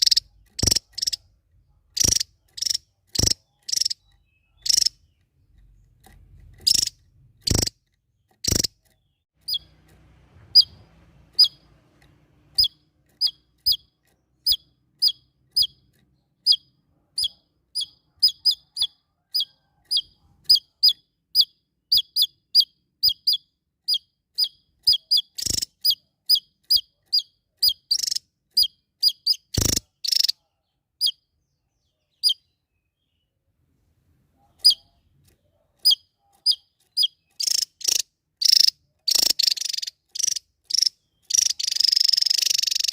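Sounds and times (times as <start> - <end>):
songbird chirping: 0.0 - 42.9.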